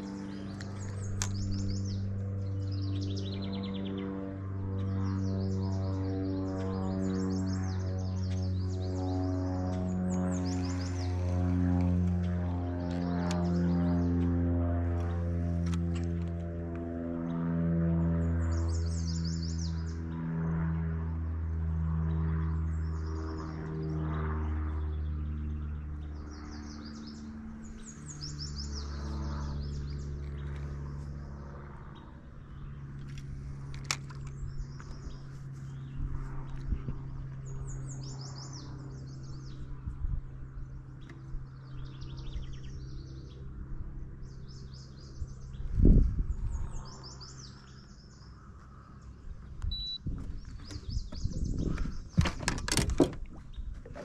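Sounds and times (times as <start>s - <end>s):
low steady hum: 0.0s - 54.0s
songbirds chirping: 0.0s - 54.0s.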